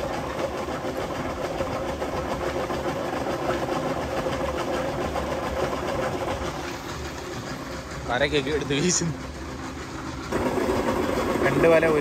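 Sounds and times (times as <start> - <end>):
pump motor humming: 0.0 - 12.0.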